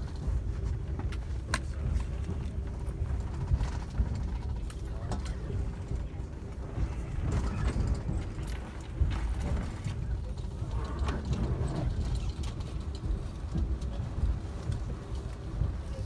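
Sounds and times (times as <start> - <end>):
train low rumble: 0.0 - 16.0
wheels clanking over rail joints: 0.0 - 16.0.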